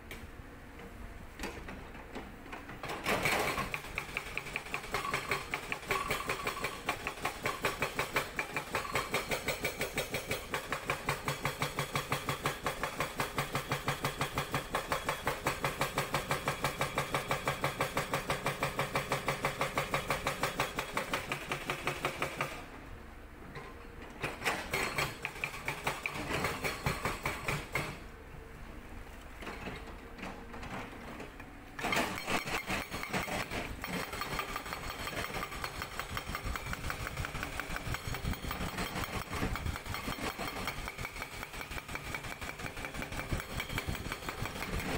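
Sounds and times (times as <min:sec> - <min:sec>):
hydraulic breaker hammering rock: 0:02.7 - 0:22.6, 0:24.2 - 0:28.0, 0:31.8 - 0:44.9.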